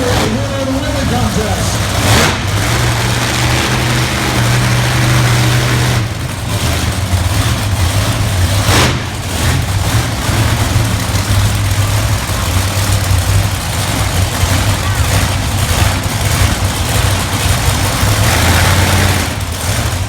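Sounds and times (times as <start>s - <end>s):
monster truck engines droning: 0.0s - 20.0s.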